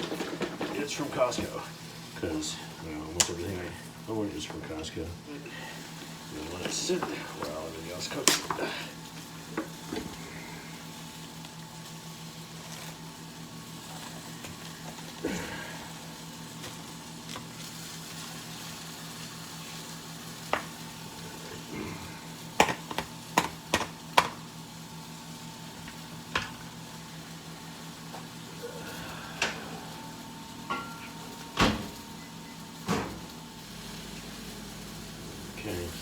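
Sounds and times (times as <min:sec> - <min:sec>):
meat sizzling in hot oil: 0:00.0 - 0:04.4, 0:05.2 - 0:36.0.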